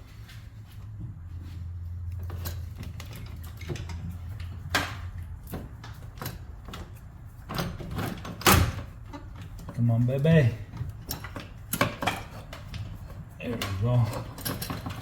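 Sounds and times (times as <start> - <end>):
metal parts clicking and knocking: 2.1 - 15.0.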